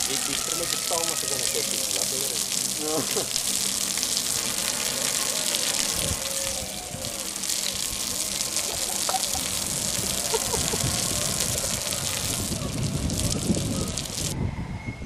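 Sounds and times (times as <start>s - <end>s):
hose spray pattering on board: 0.0s - 6.0s, 6.6s - 14.4s.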